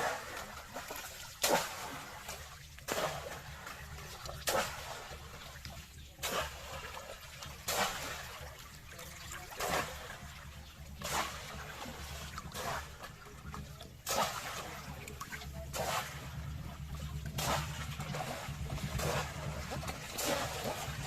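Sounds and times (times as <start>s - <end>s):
hands splashing pond water: 0.0s - 21.0s.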